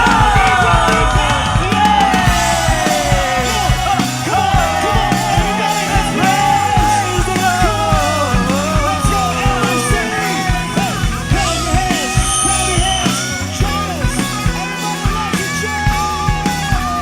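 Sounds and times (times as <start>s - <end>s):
upbeat rock instrumental music: 0.0s - 17.0s.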